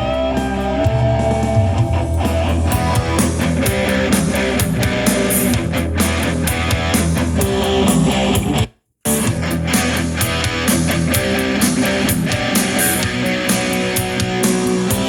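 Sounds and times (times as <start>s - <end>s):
rock music with electric guitar: 0.0s - 15.0s.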